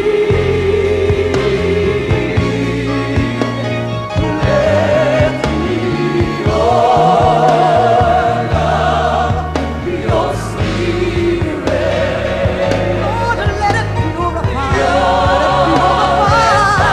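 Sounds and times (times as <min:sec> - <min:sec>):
gospel choir singing: 0:00.0 - 0:16.9
steady bass notes: 0:00.0 - 0:16.9.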